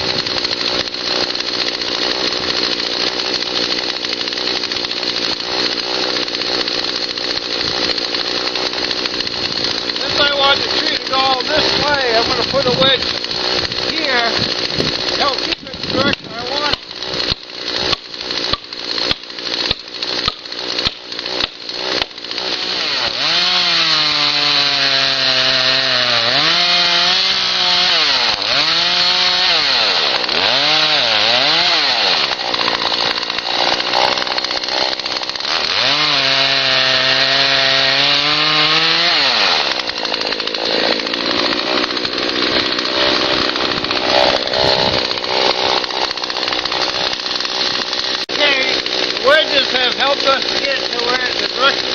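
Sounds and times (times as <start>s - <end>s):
chainsaw cutting into tree: 0.0s - 51.9s.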